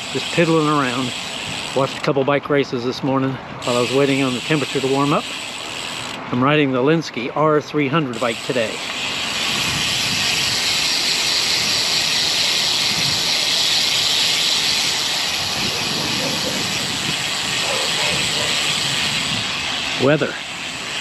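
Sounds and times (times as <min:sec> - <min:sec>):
wind and road noise on microphone: 0:00.0 - 0:21.0.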